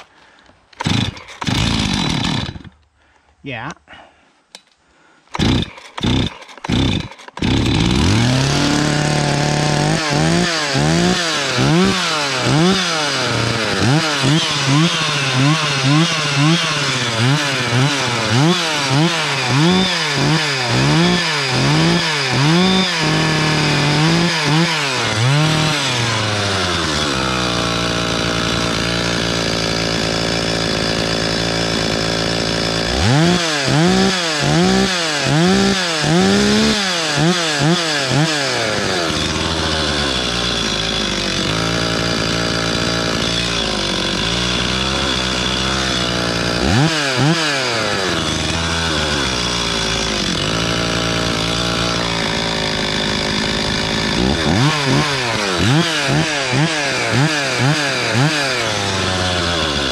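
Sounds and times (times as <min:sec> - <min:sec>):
chainsaw revving and idling: 0:00.7 - 0:02.9, 0:05.3 - 0:59.9.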